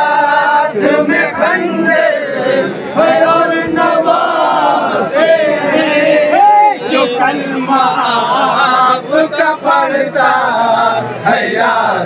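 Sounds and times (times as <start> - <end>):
men chanting in chorus: 0.0 - 12.0.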